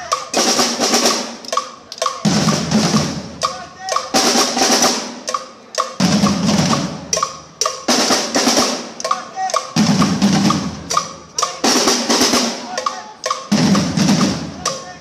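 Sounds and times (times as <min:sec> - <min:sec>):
drummers playing loud rolls: 0:00.0 - 0:15.0.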